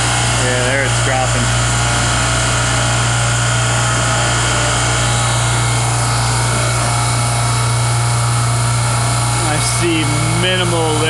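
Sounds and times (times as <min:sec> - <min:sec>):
refrigeration compressor humming: 0:00.0 - 0:11.0.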